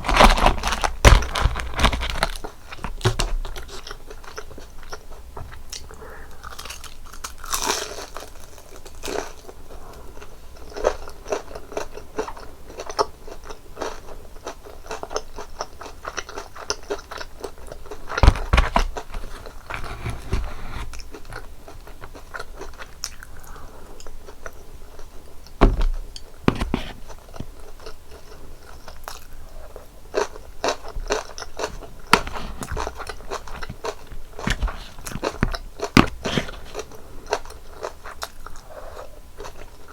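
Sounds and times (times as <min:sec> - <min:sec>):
crunching bites and chewing: 0:00.0 - 0:09.6, 0:10.2 - 0:29.3, 0:30.1 - 0:38.6.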